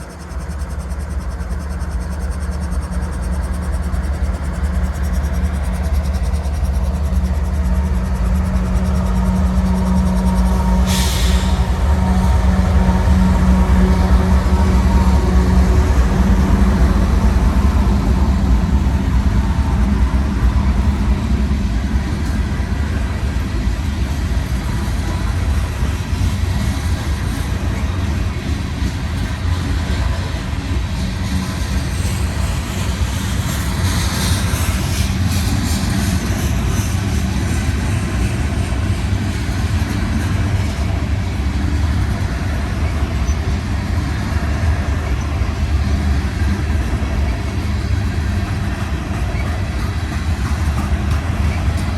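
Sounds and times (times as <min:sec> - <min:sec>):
freight train rumble: 0:00.0 - 0:51.9.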